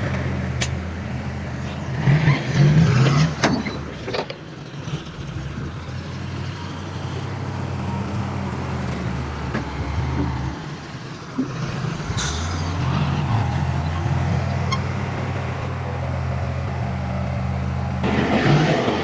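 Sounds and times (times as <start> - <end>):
heavy diesel engine running: 0.0 - 4.1, 5.3 - 11.0, 11.6 - 19.0.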